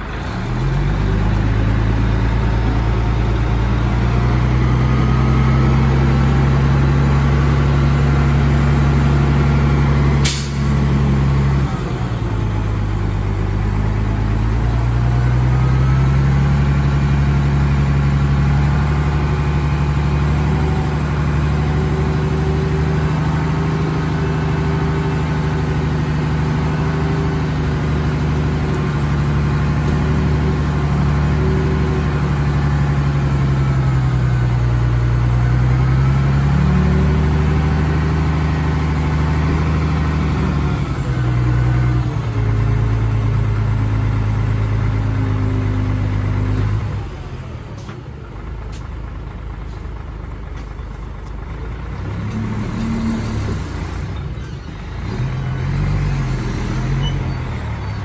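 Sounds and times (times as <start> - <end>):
heavy diesel engine under load: 0.0 - 58.0.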